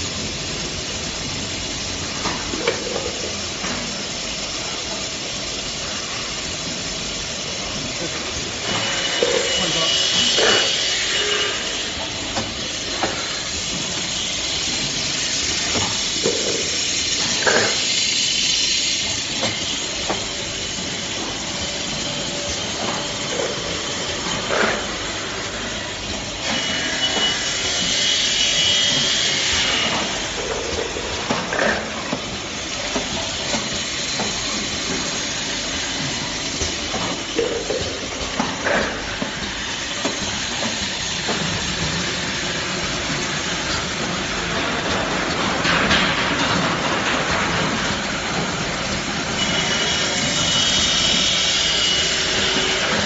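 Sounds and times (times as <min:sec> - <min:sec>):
machine high hiss: 0:00.0 - 0:45.4, 0:47.5 - 0:53.0
machine mechanism clacks: 0:00.1 - 0:53.0.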